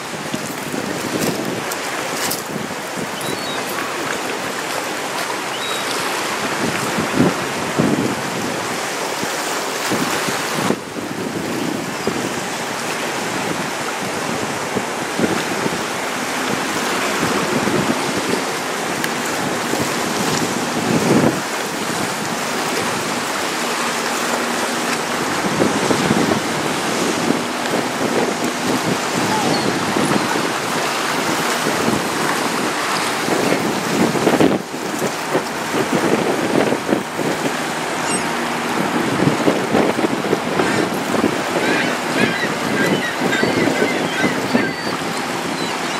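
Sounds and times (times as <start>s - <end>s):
water sloshing and lapping: 0.0s - 45.9s
wind buffeting microphone: 0.0s - 45.9s.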